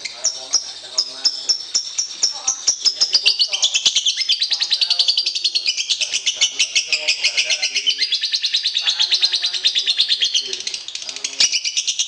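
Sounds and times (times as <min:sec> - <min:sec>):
fainter lower bird calls: 0:00.0 - 0:12.0
songbird chirps and trills: 0:00.0 - 0:12.0.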